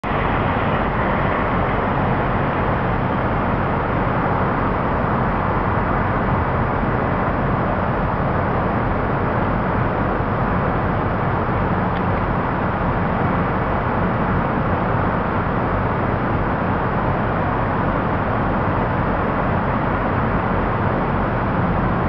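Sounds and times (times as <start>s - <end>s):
city night rumble and hiss: 0.0s - 22.0s.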